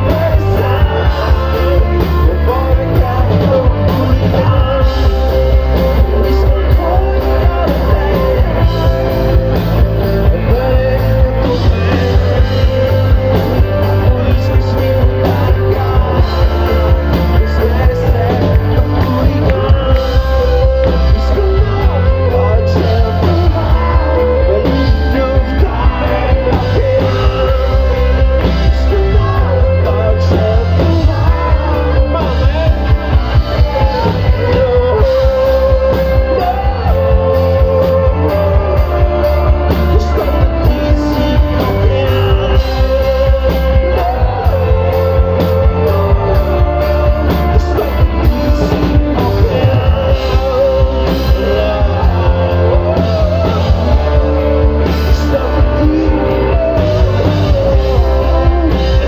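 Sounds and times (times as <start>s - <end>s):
man singing: 0.0s - 59.0s
rock band playing: 0.0s - 59.0s.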